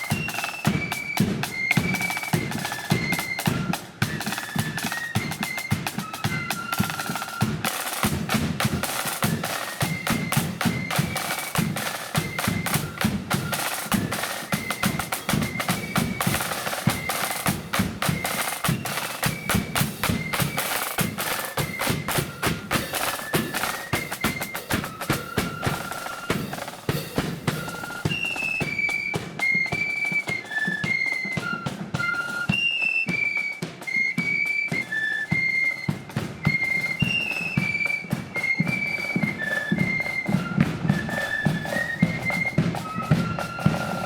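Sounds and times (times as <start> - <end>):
high flute melody: 0.0 - 44.0
rapid snare drumming: 0.0 - 44.0.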